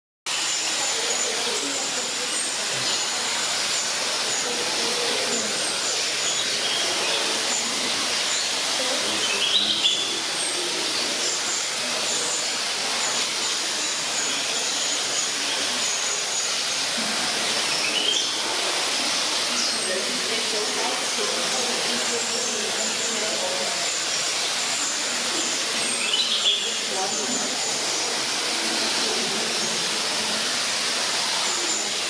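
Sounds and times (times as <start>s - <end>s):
small birds chirping: 0.3s - 32.0s
steady hiss: 0.3s - 32.0s.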